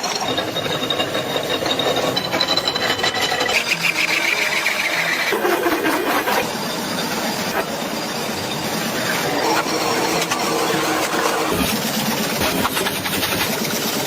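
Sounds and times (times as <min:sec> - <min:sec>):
machine rapid clatter: 0:00.0 - 0:14.0.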